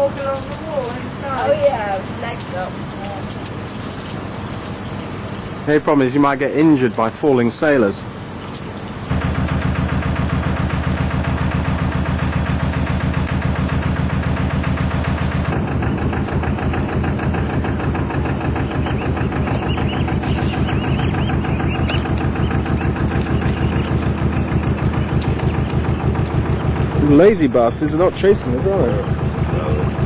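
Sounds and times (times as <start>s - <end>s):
diesel engine chugging: 0.0s - 30.0s.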